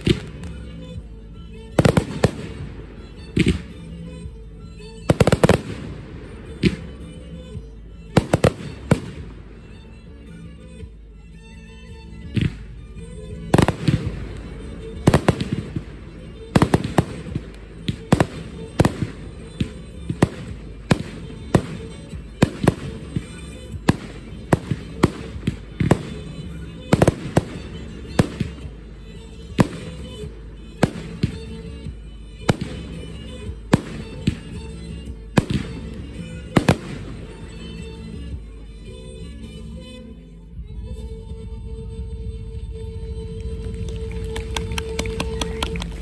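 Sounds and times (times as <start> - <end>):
music playing: 0.0 - 46.0.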